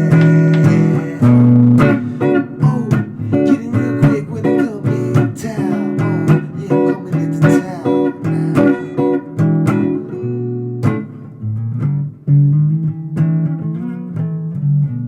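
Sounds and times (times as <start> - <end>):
acoustic guitar blues: 0.0 - 15.0.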